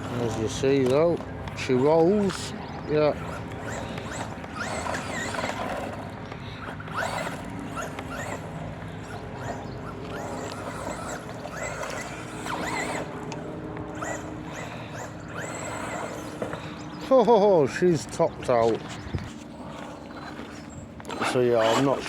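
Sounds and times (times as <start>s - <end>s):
rc truck electric motor whining: 0.0s - 22.0s.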